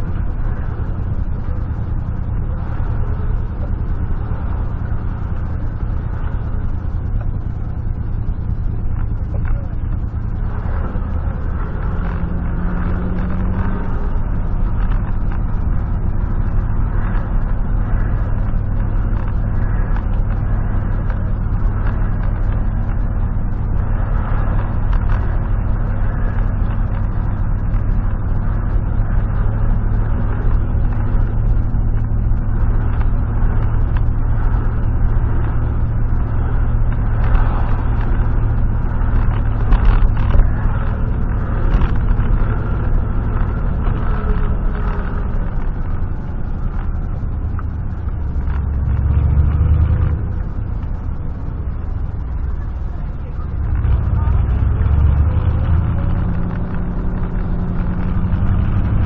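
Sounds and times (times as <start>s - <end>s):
pickup engine running: 0.0s - 59.0s
road and tyre noise: 0.0s - 59.0s.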